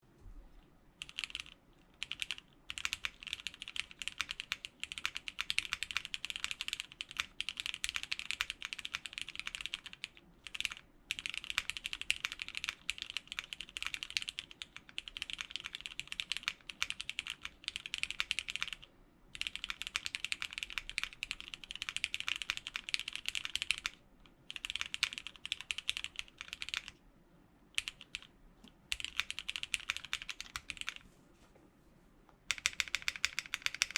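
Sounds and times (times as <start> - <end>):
mechanical keyboard typing: 1.0 - 27.0, 27.8 - 31.0, 32.5 - 33.9.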